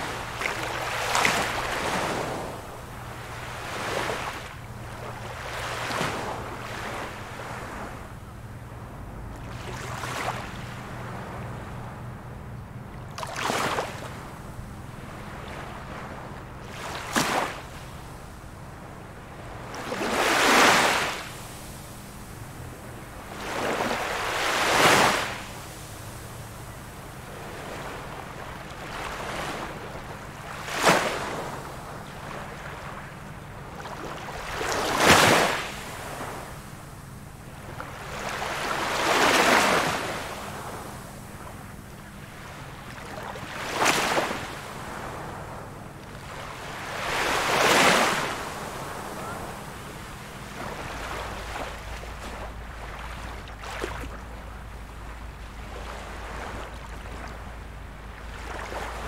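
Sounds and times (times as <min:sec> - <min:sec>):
low rumble of surf: 0:00.0 - 0:59.0
ocean waves breaking on beach: 0:00.0 - 0:59.0.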